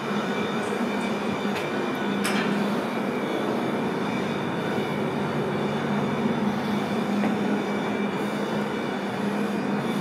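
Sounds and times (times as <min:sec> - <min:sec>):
mechanical drone with rushing noise: 0:00.0 - 0:10.0.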